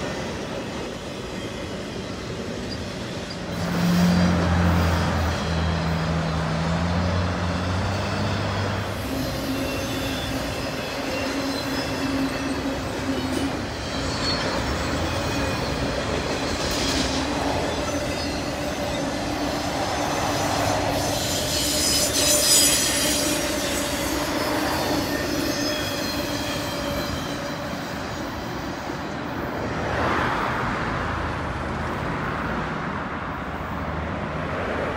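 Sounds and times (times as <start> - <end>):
high wheel squeal: 0.0 - 29.8
freight train wheels on rail: 0.0 - 34.9.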